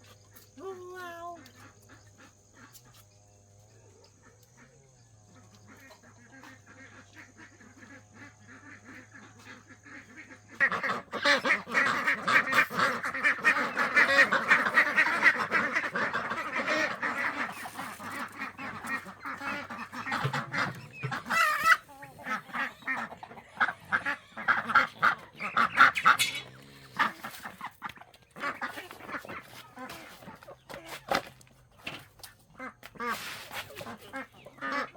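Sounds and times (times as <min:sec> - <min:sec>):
waterfowl honking and quacking: 0:04.1 - 0:34.9.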